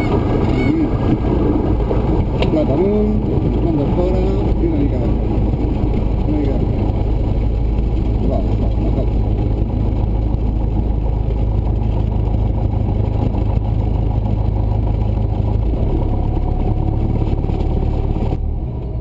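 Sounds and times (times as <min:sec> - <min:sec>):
airplane engine droning: 0:00.0 - 0:19.0.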